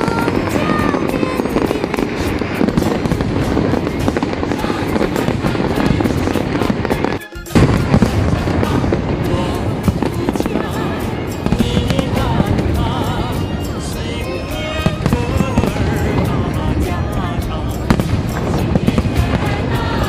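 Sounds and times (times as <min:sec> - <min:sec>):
fireworks banging and crackling: 0:00.0 - 0:20.0
music: 0:00.0 - 0:20.0.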